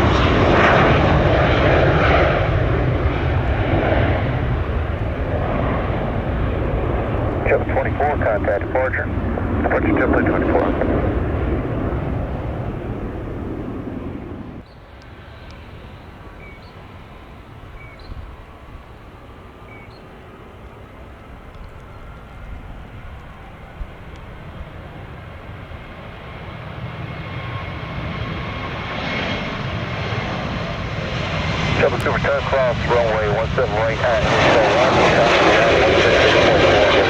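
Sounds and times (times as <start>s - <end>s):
jet airliner engine rumble: 0.0s - 37.0s.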